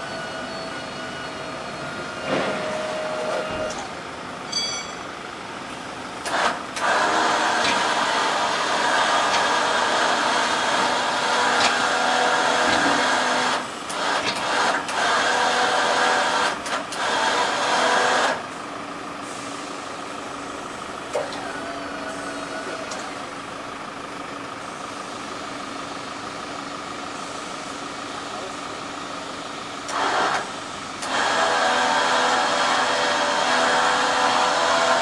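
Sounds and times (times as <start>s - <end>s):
crane electric motor running: 0.0s - 35.0s.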